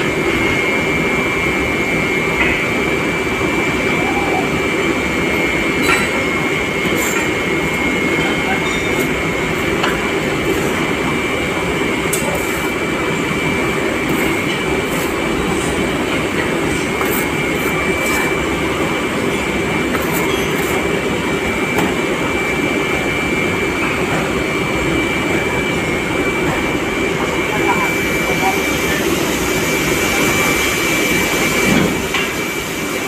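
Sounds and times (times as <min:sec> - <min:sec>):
constant high whine: 0:00.0 - 0:33.0
loud machinery drone: 0:00.0 - 0:33.0.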